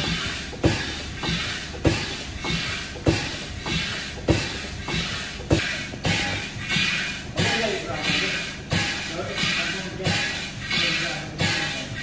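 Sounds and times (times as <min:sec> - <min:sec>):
steam engine knocking: 0:00.0 - 0:12.0
steam hissing: 0:00.0 - 0:12.0.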